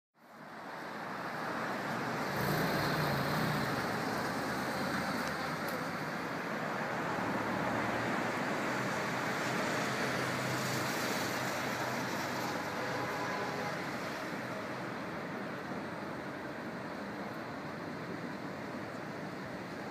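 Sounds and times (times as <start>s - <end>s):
city road traffic: 0.2s - 19.9s.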